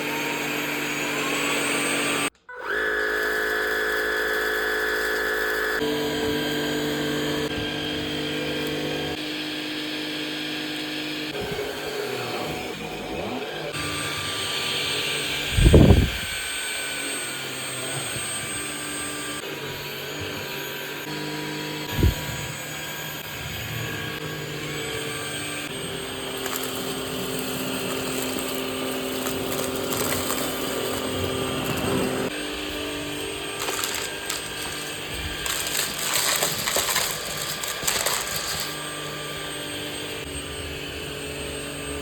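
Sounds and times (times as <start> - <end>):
stick vacuum motor whine: 0.0 - 42.0.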